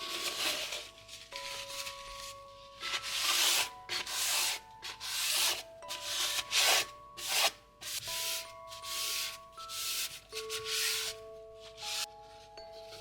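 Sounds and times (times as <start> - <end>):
rubbing or scraping strokes: 0.0 - 13.0
soft background music: 0.0 - 13.0.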